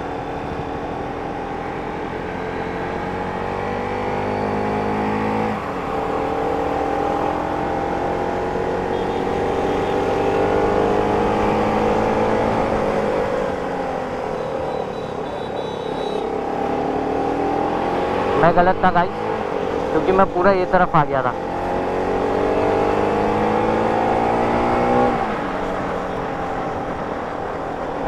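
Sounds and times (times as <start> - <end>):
wind and road noise: 0.0 - 28.0
motorcycle engine revving: 2.4 - 26.4.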